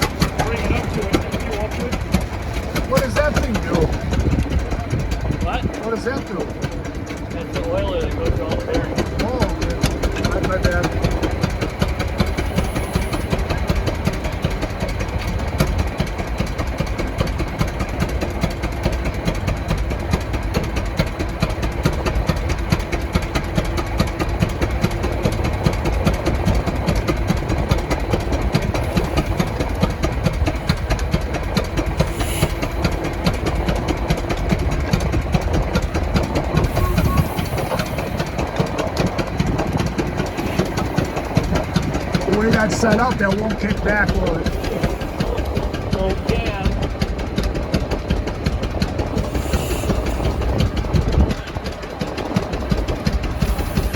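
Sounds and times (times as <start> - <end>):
antique engine running: 0.0 - 53.9.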